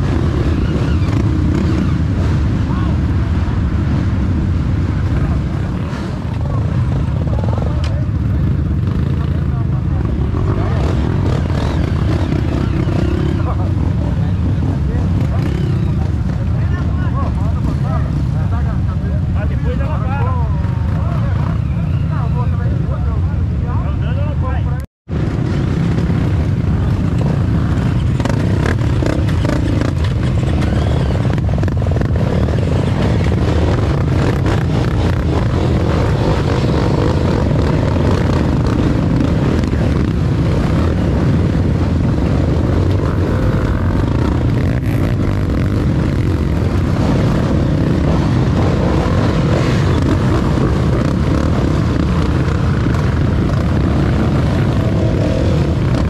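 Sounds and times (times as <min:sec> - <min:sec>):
off-road motorcycle engine: 0:00.0 - 0:56.0.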